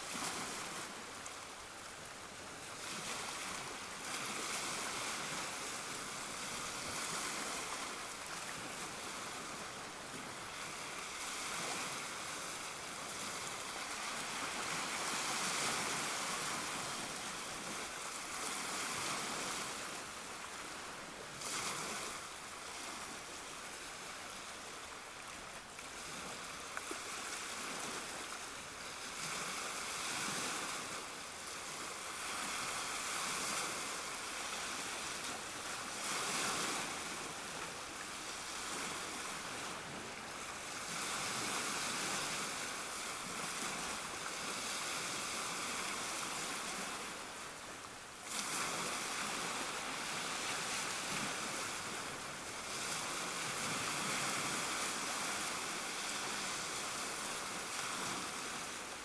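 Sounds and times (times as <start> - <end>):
waves splashing against boulders: 0.0 - 59.0.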